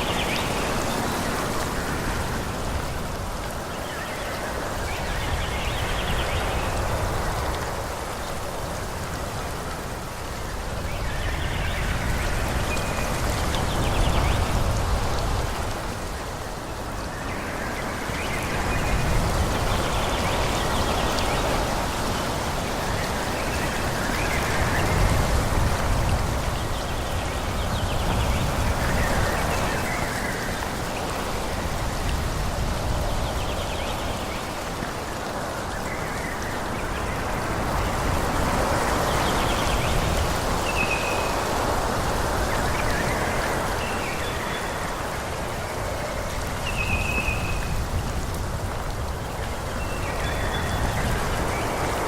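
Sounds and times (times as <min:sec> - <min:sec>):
wind through trees: 0:00.0 - 0:52.0.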